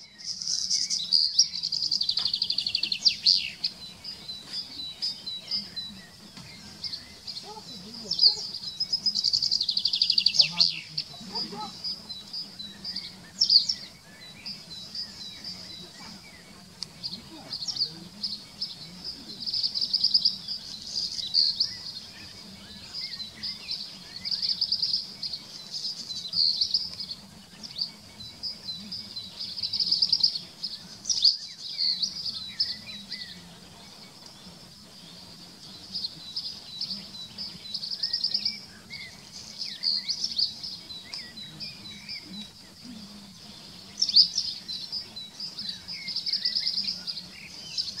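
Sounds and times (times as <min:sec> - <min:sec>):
soft bird chirps: 0:00.0 - 0:48.0
songbird trilling: 0:00.0 - 0:48.0.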